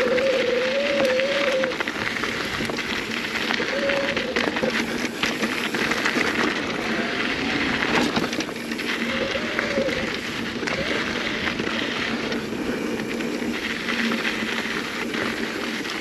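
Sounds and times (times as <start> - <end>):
bike rattling over bumps: 0.0 - 16.0
tyres crunching over gravel: 0.0 - 16.0.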